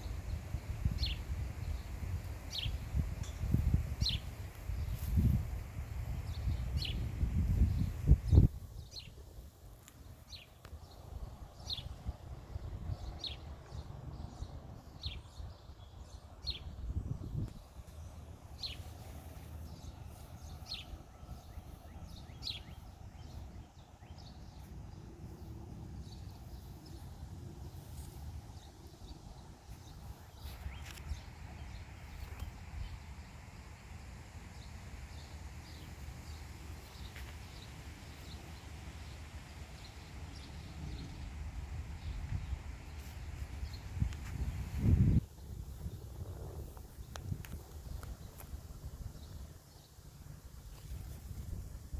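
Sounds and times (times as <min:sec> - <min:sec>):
songbird chirping: 0:00.0 - 0:05.4, 0:06.0 - 0:51.9.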